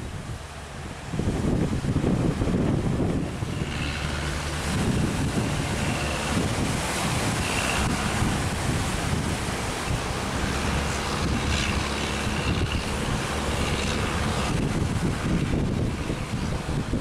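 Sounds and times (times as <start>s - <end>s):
boat engine running low: 0.0s - 17.0s
surf breaking: 0.0s - 17.0s
wind blowing over microphone: 0.0s - 17.0s.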